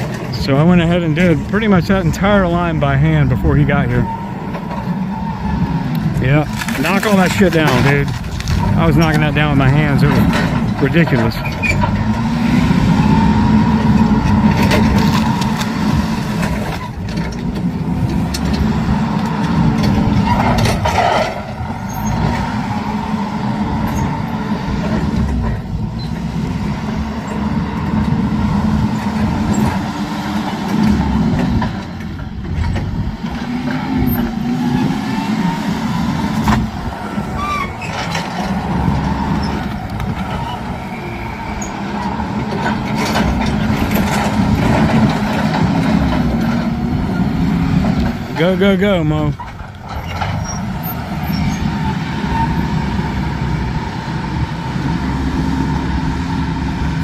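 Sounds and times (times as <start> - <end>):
forklift engine revving: 0.0 - 57.0.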